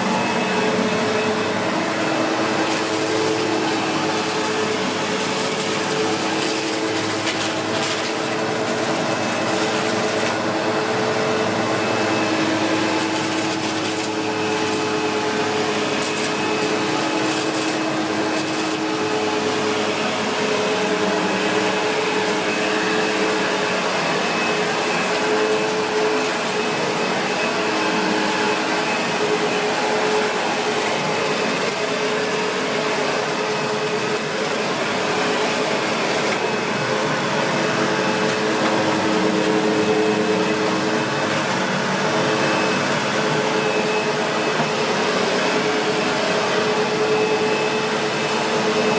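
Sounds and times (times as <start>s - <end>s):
vacuum cleaner running on carpet: 0.0s - 48.9s.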